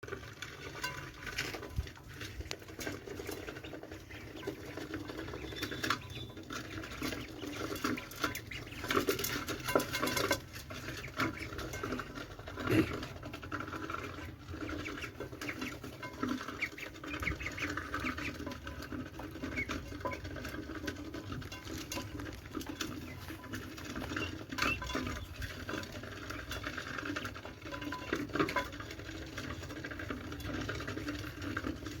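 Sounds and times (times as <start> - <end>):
ducks dabbling in feed: 0.0 - 32.0.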